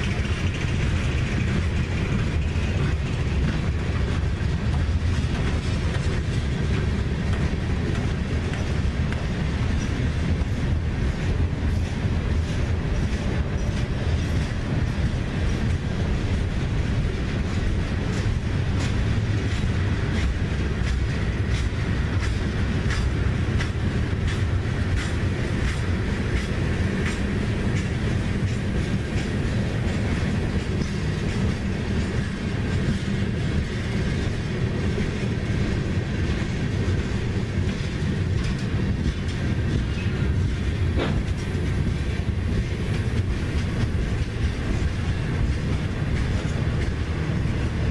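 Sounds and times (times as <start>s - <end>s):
freight train rumbling past: 0.0s - 47.9s
wheels clicking over rail joints: 0.0s - 47.9s.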